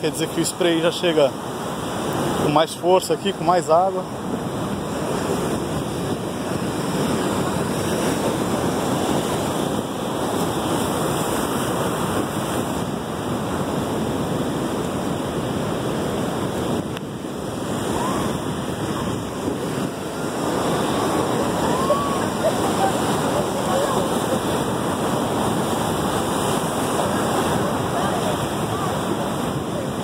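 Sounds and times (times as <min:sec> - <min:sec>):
waves breaking on rocks: 0:00.0 - 0:30.0.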